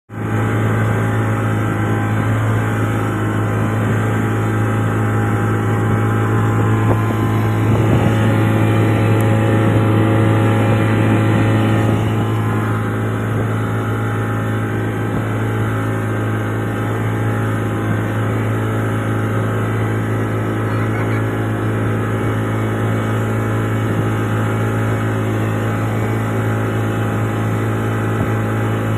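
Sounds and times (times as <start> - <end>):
boat engine droning: 0.1 - 28.9.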